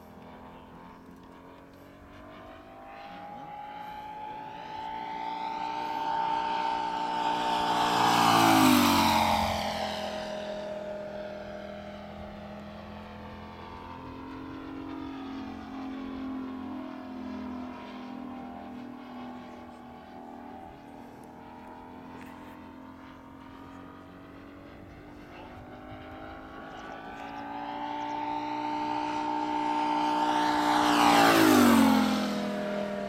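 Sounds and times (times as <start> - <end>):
model plane engine fly-by: 0.0 - 33.0.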